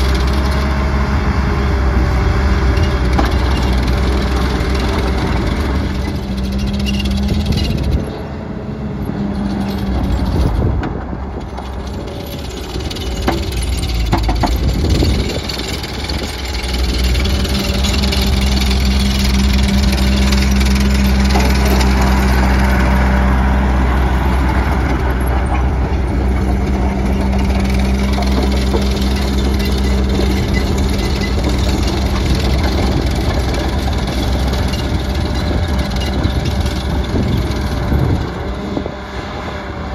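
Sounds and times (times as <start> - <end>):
track loader diesel engine: 0.0 - 39.9.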